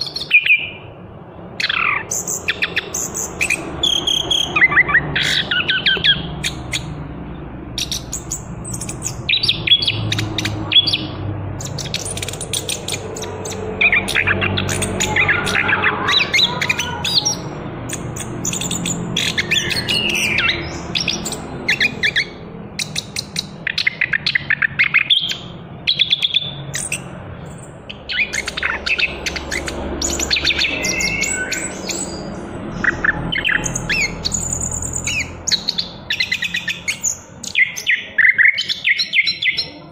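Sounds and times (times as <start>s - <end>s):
thrush singing chirps and trills: 0.0s - 39.9s.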